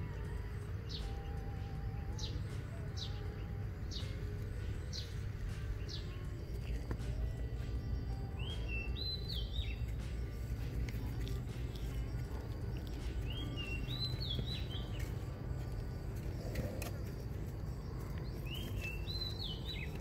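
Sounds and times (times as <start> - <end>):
steady low rumble: 0.0 - 20.0
bird whistling song: 0.1 - 15.8, 16.4 - 20.0.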